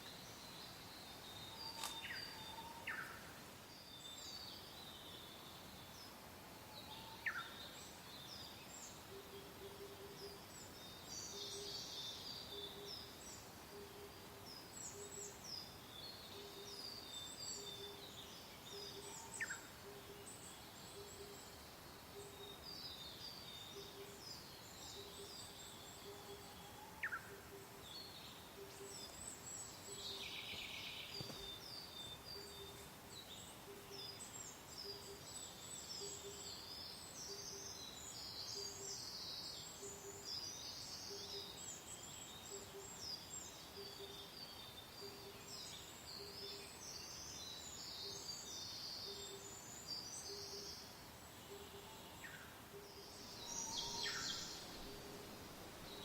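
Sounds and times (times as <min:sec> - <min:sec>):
gentle wind: 0:00.0 - 0:56.0
songbirds chirping and trilling: 0:00.0 - 0:56.0.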